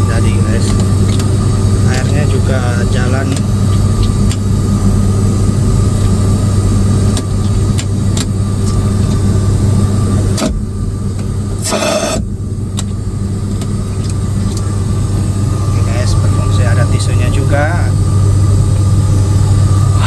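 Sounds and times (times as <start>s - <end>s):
turboprop cabin drone: 0.0s - 20.0s.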